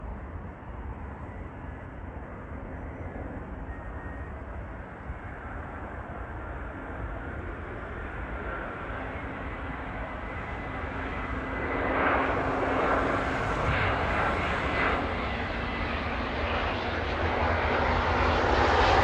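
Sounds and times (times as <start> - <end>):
faint high whine: 0.1 - 16.8
jet engines roaring: 0.1 - 19.0.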